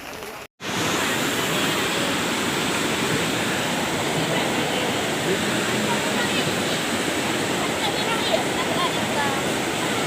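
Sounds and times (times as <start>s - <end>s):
heavy rain downpour: 0.6s - 10.0s.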